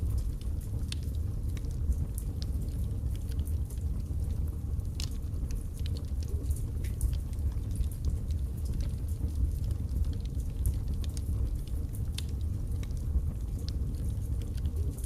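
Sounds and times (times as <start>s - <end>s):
fire flames rumbling: 0.0s - 15.0s
wood crackling and popping: 0.0s - 15.0s.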